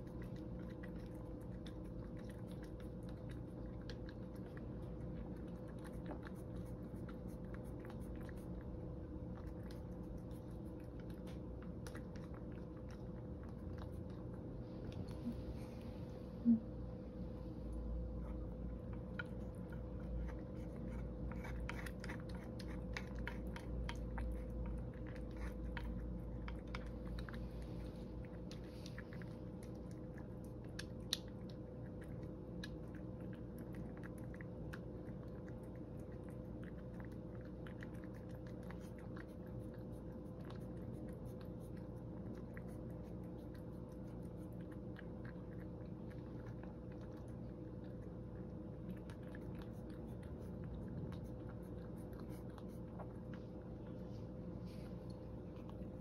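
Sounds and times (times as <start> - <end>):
cat chewing and lapping food: 0.0 - 56.0
faint hum: 0.0 - 56.0.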